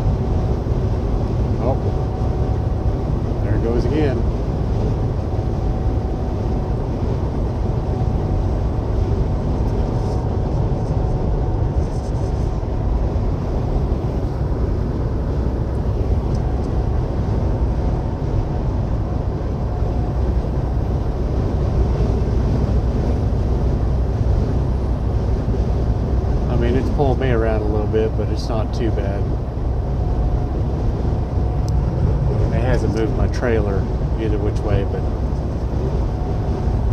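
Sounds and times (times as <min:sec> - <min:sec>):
road noise: 0:00.0 - 0:36.9
truck engine drone: 0:00.0 - 0:36.9.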